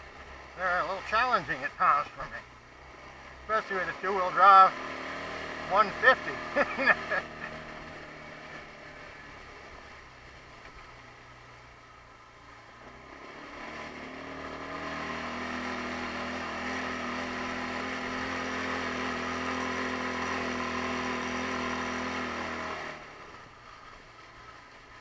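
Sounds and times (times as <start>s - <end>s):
atv engine under throttle: 0.0s - 25.0s.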